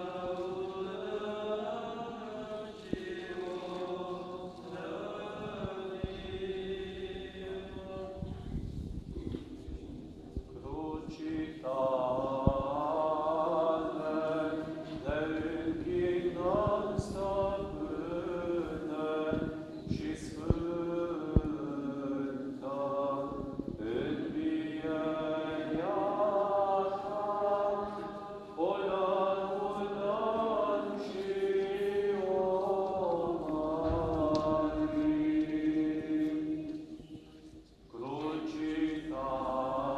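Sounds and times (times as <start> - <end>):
voices chanting: 0.0 - 8.4, 10.5 - 37.1, 37.9 - 39.9.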